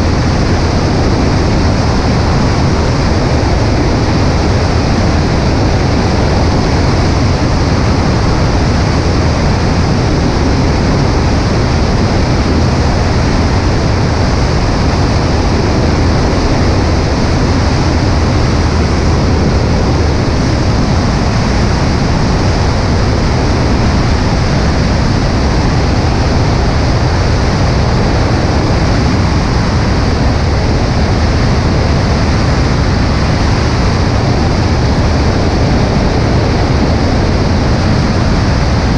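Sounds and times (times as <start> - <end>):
aircraft engine and propeller drone: 0.0 - 38.9
wind rushing over microphone: 0.0 - 38.9.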